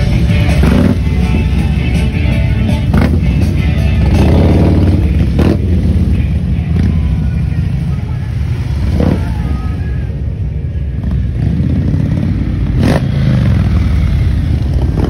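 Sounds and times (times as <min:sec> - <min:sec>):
motorcycles rumbling: 0:00.0 - 0:15.0.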